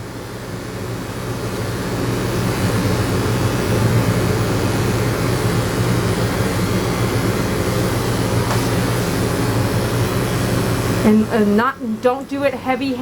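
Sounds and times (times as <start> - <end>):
electric clippers humming: 0.0 - 12.9.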